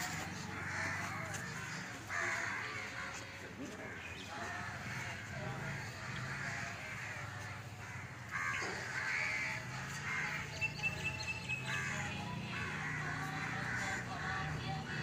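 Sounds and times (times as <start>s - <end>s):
crows cawing: 0.0s - 10.6s, 11.6s - 15.0s.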